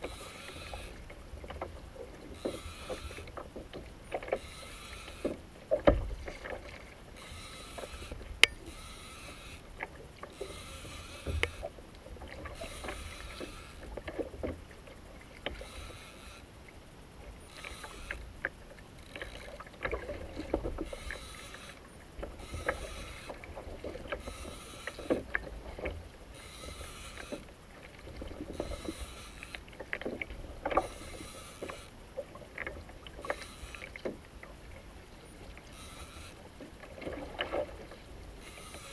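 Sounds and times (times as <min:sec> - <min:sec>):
small clicks and knocks: 0:00.0 - 0:16.5, 0:17.6 - 0:34.5
water sloshing against kayak hull: 0:00.0 - 0:38.9.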